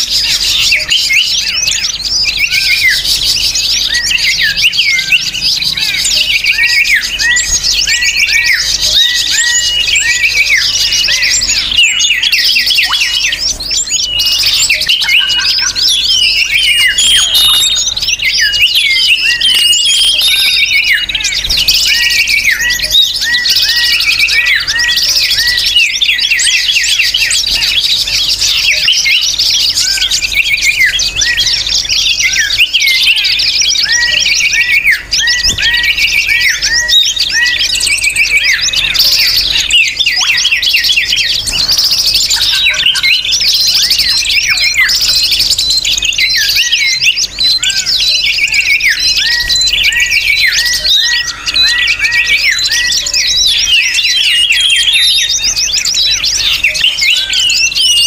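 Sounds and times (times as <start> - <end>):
small birds chirping chorus: 0.0 - 58.0.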